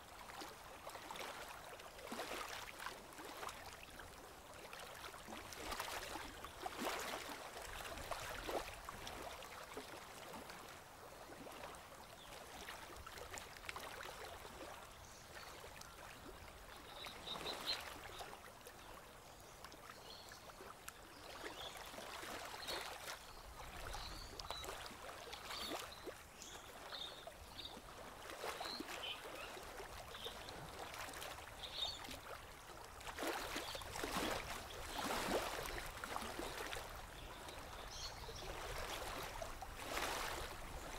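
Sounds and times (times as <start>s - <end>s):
river water lapping at bank: 0.0s - 40.9s.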